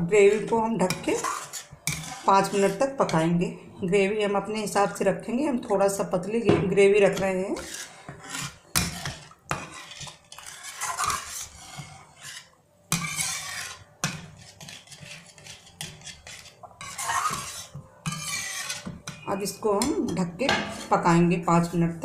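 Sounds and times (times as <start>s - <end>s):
metal spatula scraping a pan: 0.0s - 3.6s, 4.4s - 5.7s, 6.7s - 21.6s.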